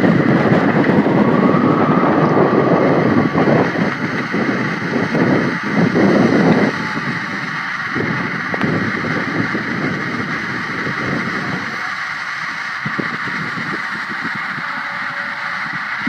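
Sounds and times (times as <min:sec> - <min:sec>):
howling wind: 0:00.0 - 0:16.0.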